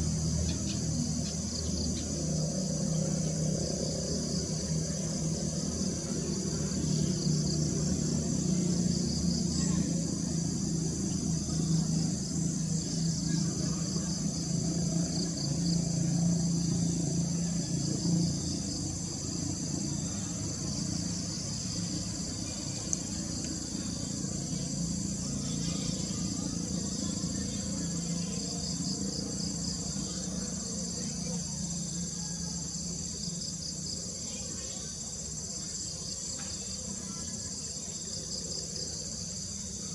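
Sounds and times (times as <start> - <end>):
insects buzzing chorus: 0.0 - 39.9
low background hum: 0.0 - 39.9.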